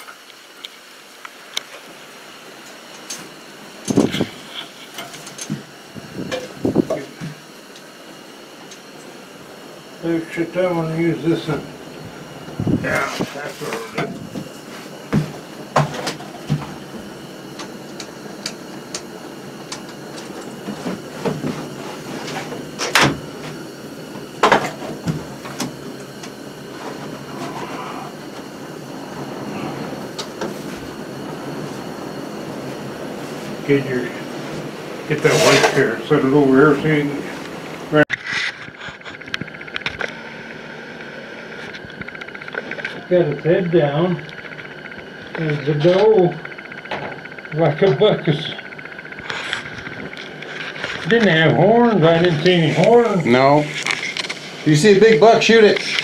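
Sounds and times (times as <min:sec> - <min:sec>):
steady low hiss: 0:00.0 - 0:38.1, 0:38.7 - 0:56.0.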